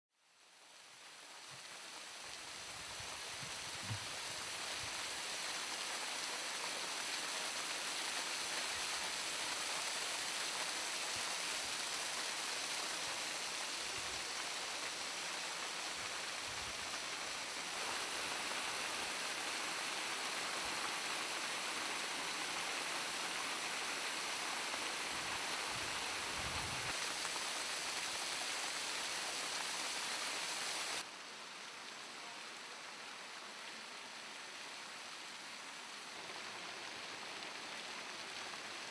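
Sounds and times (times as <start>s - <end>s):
waterfall splashing on rocks: 0.4s - 31.1s, 34.2s - 38.9s.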